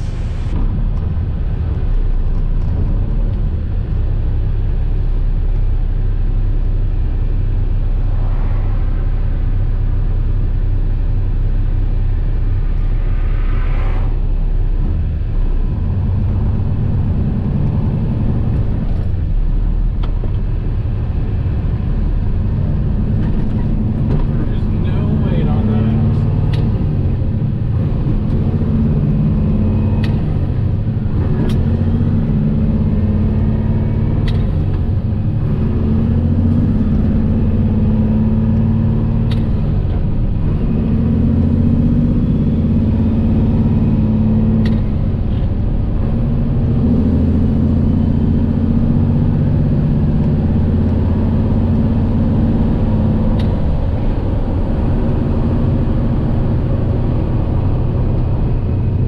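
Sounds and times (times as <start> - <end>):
diesel truck engine pulling through gears: 0.0 - 59.0.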